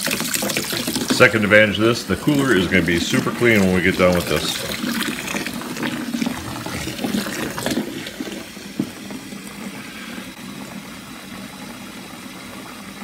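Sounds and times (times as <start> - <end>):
faucet water pouring into cooler: 0.0 - 13.0.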